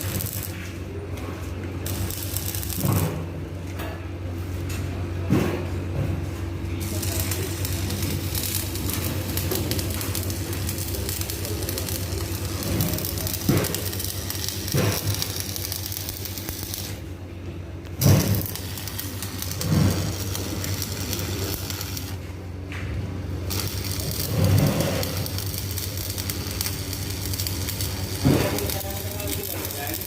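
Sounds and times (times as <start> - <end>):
welding arc crackling and sizzling: 0.0 - 1.1, 1.7 - 3.3, 6.8 - 17.1, 17.8 - 22.3, 23.2 - 30.0.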